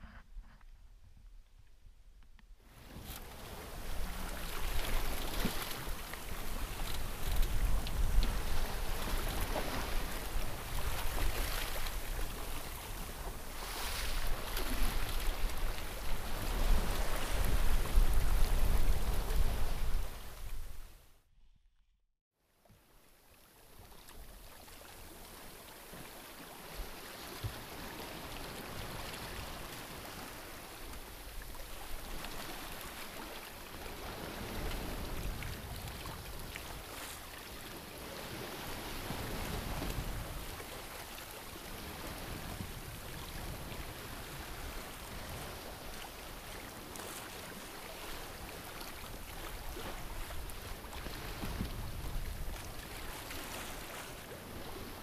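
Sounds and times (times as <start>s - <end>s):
water rushing along boat hull: 2.8s - 20.4s, 23.7s - 55.0s.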